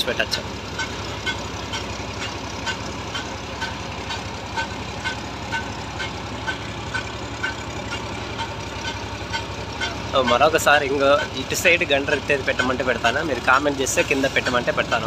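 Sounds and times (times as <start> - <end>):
crane engine running: 0.0 - 15.0.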